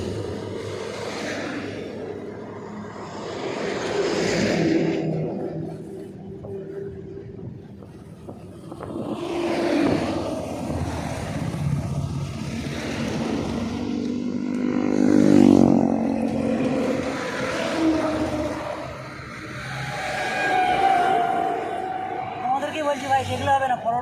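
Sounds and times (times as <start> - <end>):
vehicle engine hum passing: 0.0 - 23.9
highway traffic passing: 0.0 - 24.0.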